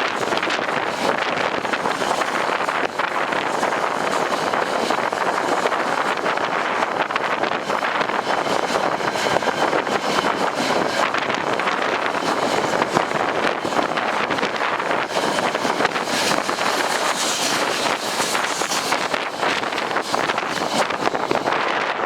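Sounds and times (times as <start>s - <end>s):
gusty wind on microphone: 0.0s - 22.0s.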